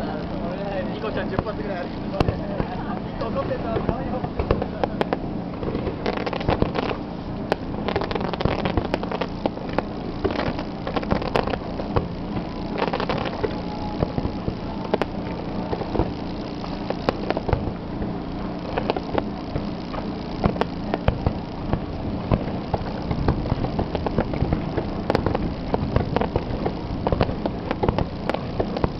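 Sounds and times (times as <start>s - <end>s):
fireworks bangs and crackle: 0.2s - 28.9s
fireworks shell bursts rumbling: 0.3s - 28.9s.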